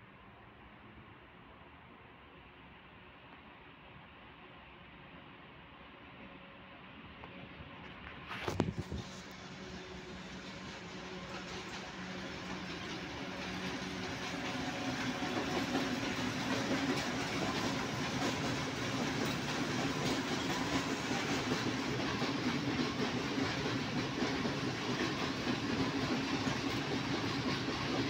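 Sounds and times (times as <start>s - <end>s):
freight train rumbling past: 0.1s - 28.0s.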